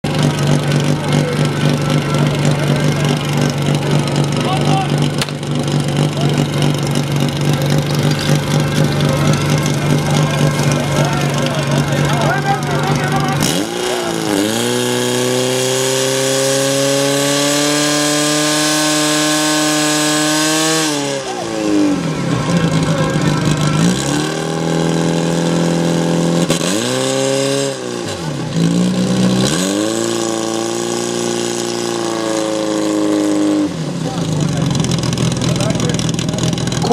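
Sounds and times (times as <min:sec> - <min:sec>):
pump engine revving: 0:00.0 - 0:36.9.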